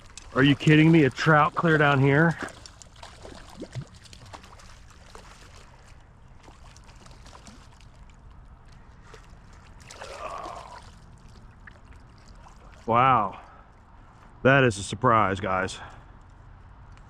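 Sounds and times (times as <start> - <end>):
light splashes and clicks: 0.0 - 13.9
creek water running: 0.0 - 14.0.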